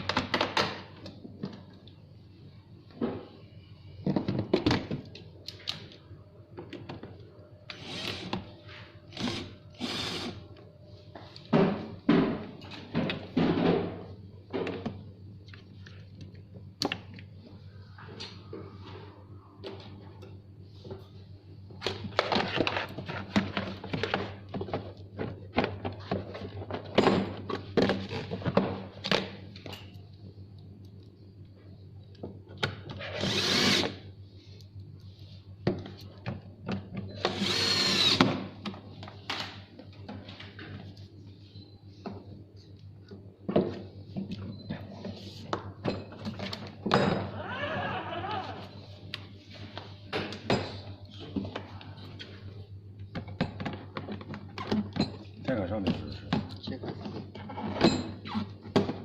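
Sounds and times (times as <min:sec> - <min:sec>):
steady low hum: 0:00.8 - 0:54.5.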